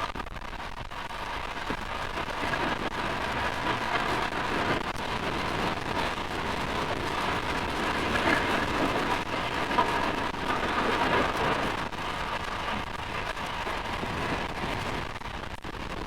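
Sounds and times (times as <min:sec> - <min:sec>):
wind buffeting microphone: 0:01.0 - 0:16.0.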